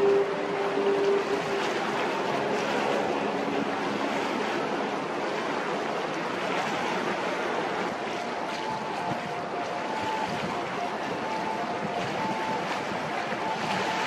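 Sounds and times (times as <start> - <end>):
choppy water washing: 0.0 - 14.0
wind: 0.0 - 14.0.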